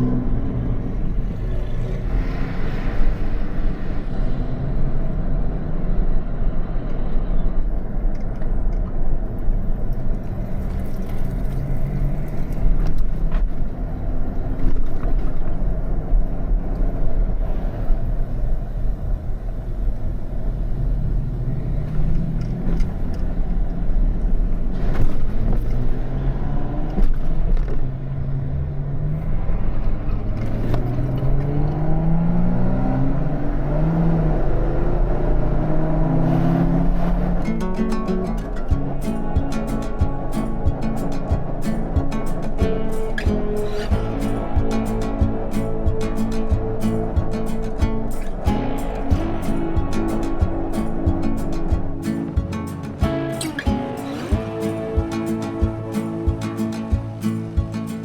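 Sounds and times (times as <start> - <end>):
car engine rumbling and accelerating: 0.0 - 58.0.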